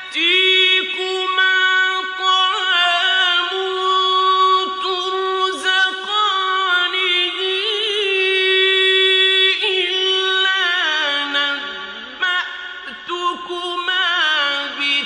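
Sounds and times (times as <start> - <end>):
person chanting melodically: 0.0 - 15.0.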